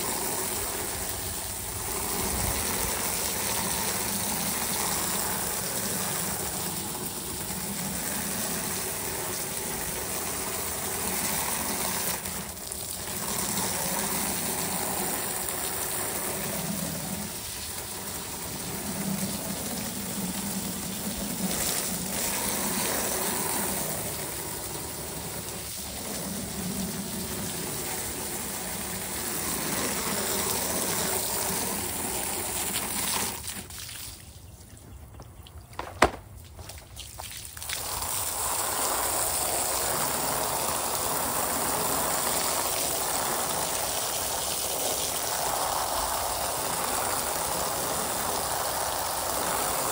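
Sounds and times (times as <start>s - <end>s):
hose water spraying: 0.0s - 34.8s, 35.6s - 49.9s.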